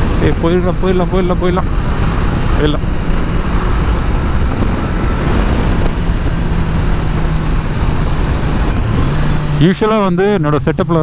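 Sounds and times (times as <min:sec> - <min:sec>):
wind rush: 0:00.0 - 0:10.7
motorcycle engine running: 0:00.0 - 0:11.0.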